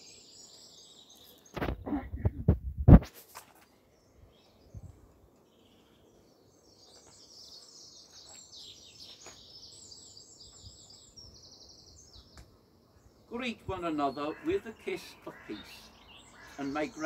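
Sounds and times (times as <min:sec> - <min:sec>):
songbird chirping: 0:00.0 - 0:01.9, 0:03.6 - 0:17.0.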